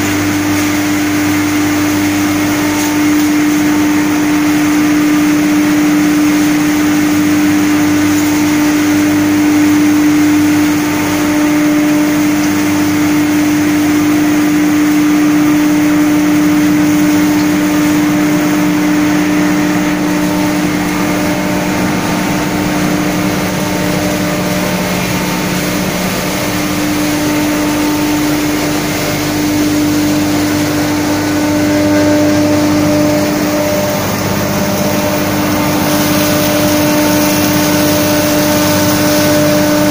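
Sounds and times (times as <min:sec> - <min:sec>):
straw grinding machine droning: 0:00.0 - 0:39.9.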